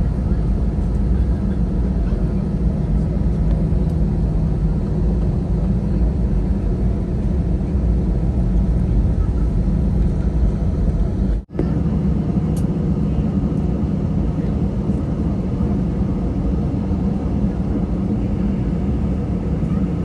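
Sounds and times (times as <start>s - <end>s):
jet engine and airflow noise in cabin: 0.0s - 20.0s.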